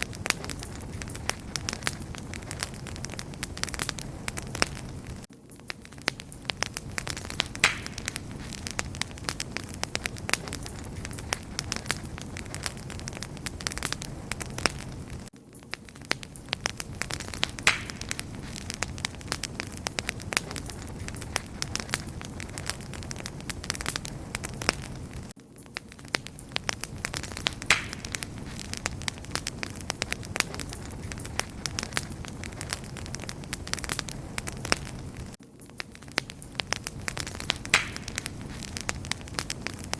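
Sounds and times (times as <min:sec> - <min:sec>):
low rush of flame: 0:00.0 - 0:05.3, 0:06.4 - 0:15.3, 0:16.0 - 0:25.4, 0:26.1 - 0:35.4, 0:36.0 - 0:39.9
campfire crackling and popping: 0:00.0 - 0:39.9.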